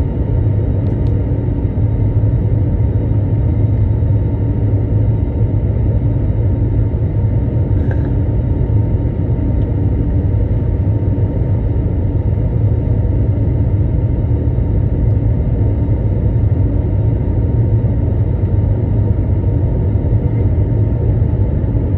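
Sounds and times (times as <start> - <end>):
airplane cabin noise: 0.0 - 21.9.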